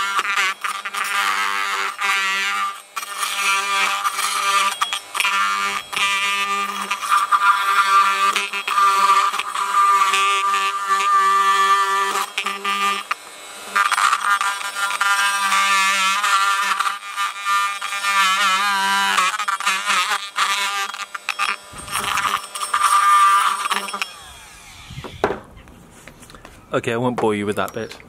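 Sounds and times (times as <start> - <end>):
multi-tool buzzing cutting plastic: 0.0 - 26.5.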